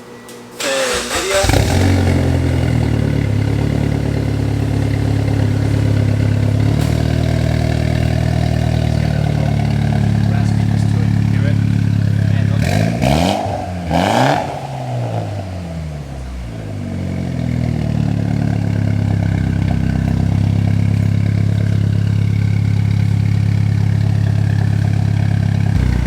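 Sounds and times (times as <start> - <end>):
car engine revving and idling: 0.6 - 26.0.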